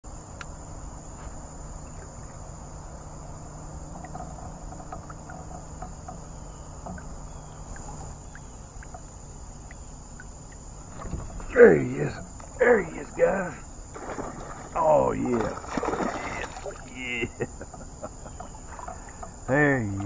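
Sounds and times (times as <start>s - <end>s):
insects chorus: 0.0s - 20.0s
faint ticks: 0.3s - 2.5s, 3.1s - 13.9s, 16.1s - 20.0s.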